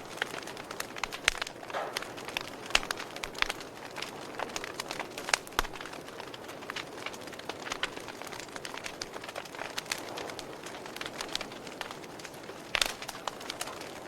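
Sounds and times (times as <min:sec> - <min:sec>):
campfire crackling: 0:00.0 - 0:14.0
sharp wood pops: 0:00.0 - 0:14.0.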